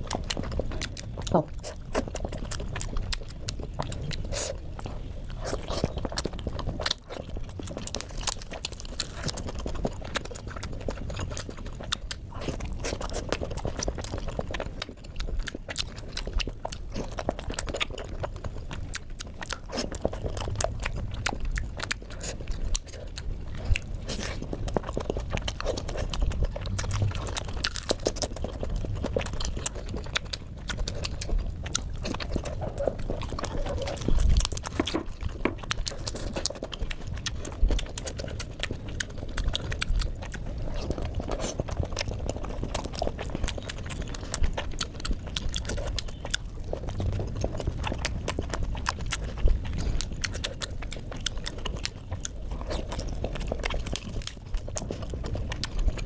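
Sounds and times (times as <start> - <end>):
chewing with wet mouth clicks: 0.0 - 56.0.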